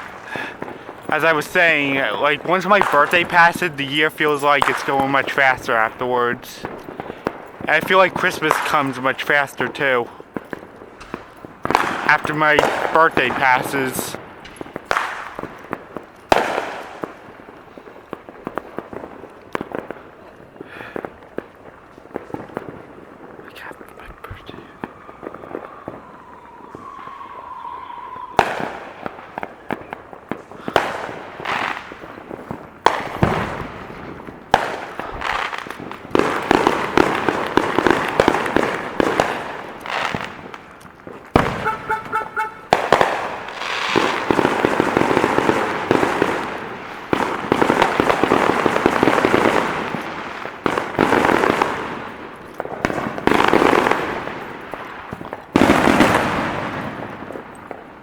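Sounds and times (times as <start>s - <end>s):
firecrackers crackling: 0.0s - 58.0s
fireworks bangs: 0.0s - 58.0s.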